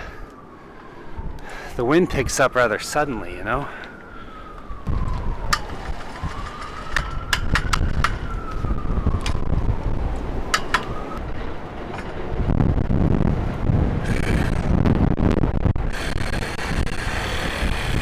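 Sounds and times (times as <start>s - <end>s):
distant siren wailing: 0.0s - 18.0s
wind buffeting microphone: 1.1s - 18.0s.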